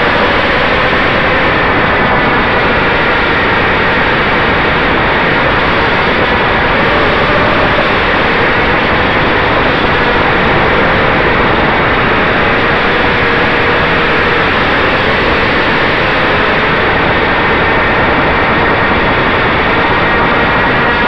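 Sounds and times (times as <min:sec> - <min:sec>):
quadcopter motors and propellers: 0:00.0 - 0:21.0.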